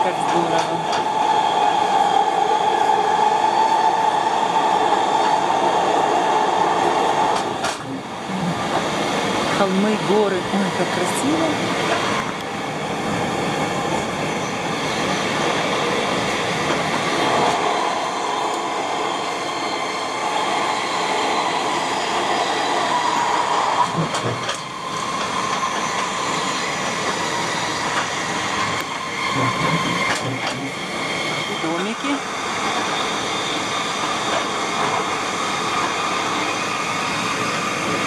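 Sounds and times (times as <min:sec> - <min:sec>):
train wheels rolling on rails: 0:00.0 - 0:38.0.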